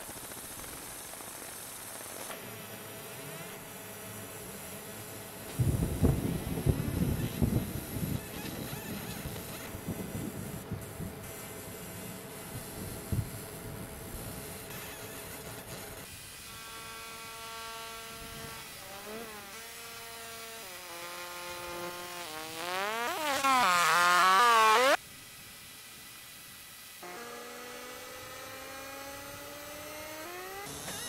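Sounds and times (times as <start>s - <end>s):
electric tool whine: 0.0s - 25.0s, 26.3s - 31.0s.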